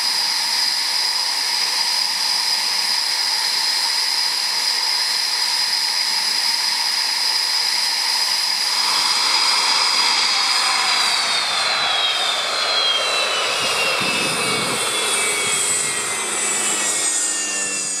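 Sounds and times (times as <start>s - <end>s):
jet engines whining down: 0.0s - 18.0s.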